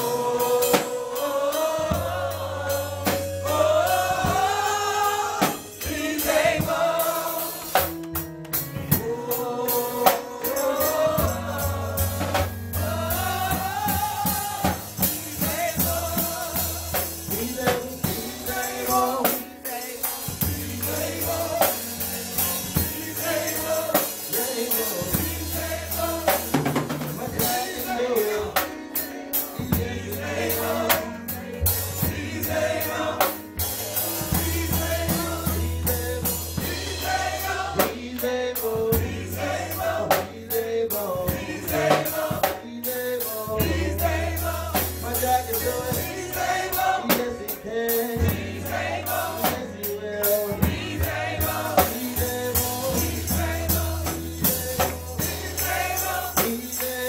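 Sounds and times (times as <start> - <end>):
drums: 0.0 - 57.0
group of singers: 0.0 - 57.0.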